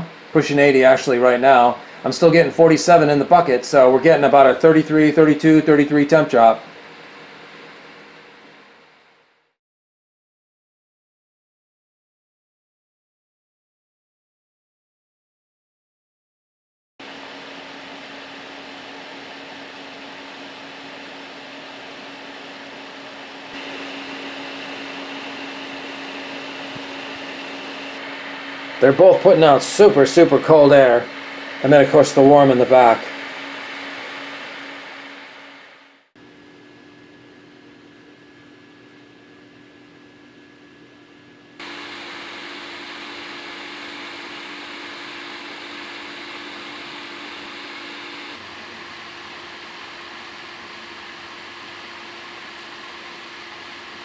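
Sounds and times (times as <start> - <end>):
cooling fans whirring: 0.0 - 9.3, 17.0 - 54.0
high fan whine: 0.0 - 9.6, 17.0 - 54.0.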